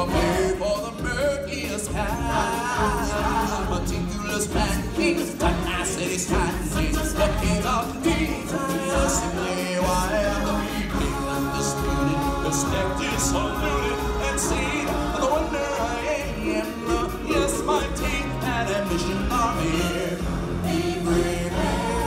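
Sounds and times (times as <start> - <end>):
backing track with drum beat: 0.0 - 22.0.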